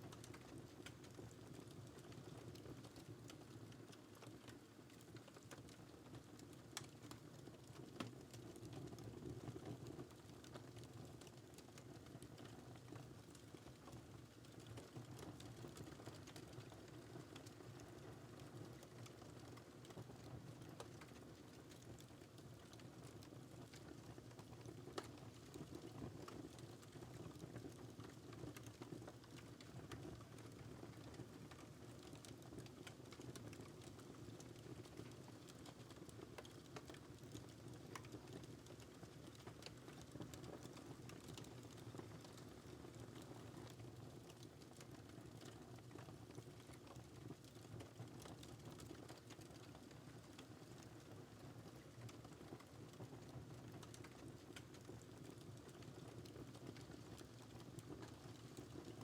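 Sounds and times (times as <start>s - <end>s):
wood fire crackling and popping: 0.1s - 59.0s.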